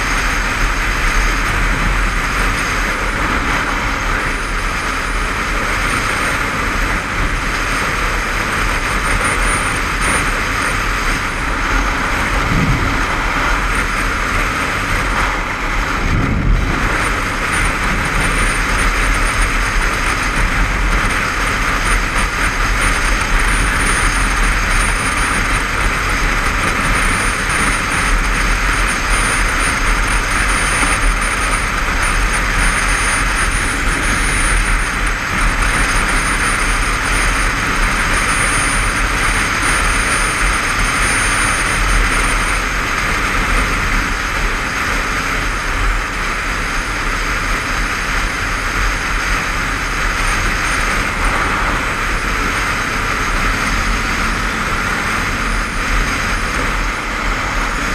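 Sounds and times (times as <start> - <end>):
motorcycle engine and road noise: 0.0 - 57.9
wind rush on camera: 0.0 - 57.9.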